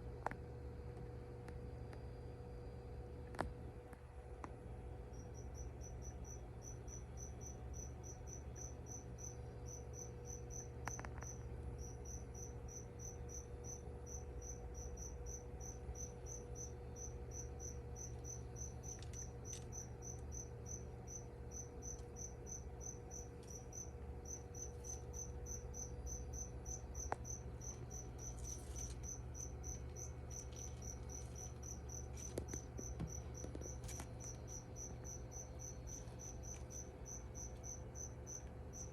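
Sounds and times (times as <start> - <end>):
steady low hum: 0.0 - 38.9
cricket chirping: 4.9 - 38.9.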